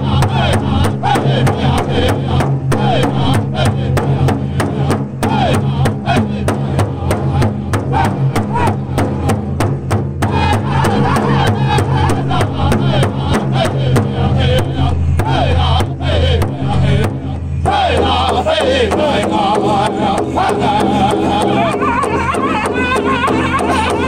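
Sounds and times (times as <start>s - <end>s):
voices in high wavering chant: 0.0s - 9.4s, 10.2s - 24.0s
large hide drum steady beat: 0.0s - 24.0s.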